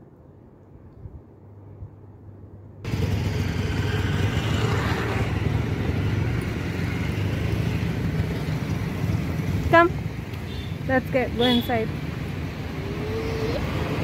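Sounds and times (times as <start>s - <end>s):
road traffic rumbling: 2.6s - 14.0s.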